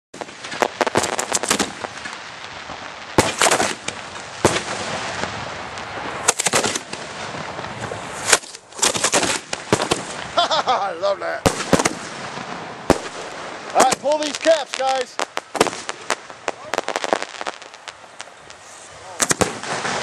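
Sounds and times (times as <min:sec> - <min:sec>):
fireworks cracking and popping: 0:00.2 - 0:20.0
fireworks hissing: 0:00.2 - 0:20.0.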